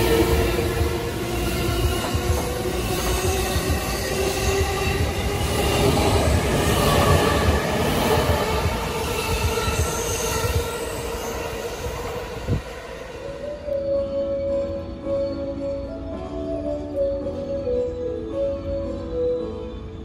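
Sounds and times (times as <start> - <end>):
steady train whine: 0.0 - 20.0
train wheels rumbling on rail: 0.0 - 20.0.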